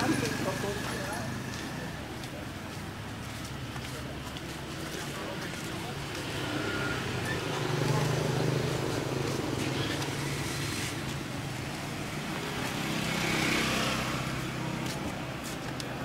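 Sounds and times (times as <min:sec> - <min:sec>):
motor scooters passing: 0:00.0 - 0:16.0
street traffic: 0:00.0 - 0:16.0.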